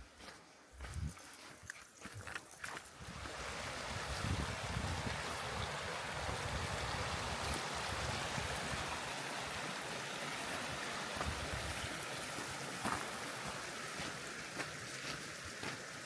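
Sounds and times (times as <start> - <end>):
river water rushing: 2.9 - 16.0.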